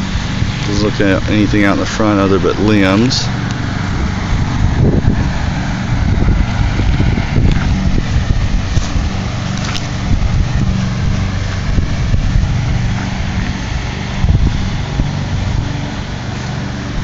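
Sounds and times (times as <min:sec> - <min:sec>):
steady engine hum: 0:00.0 - 0:17.0
wind buffeting microphone: 0:00.0 - 0:17.0.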